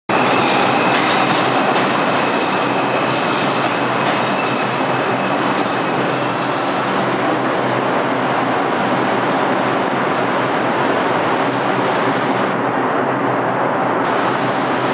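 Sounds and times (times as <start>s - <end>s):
subway train rail rumble: 0.1s - 14.9s.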